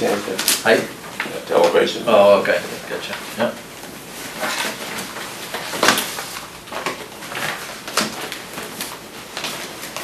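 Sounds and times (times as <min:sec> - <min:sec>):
papers rustling: 0:00.0 - 0:10.0.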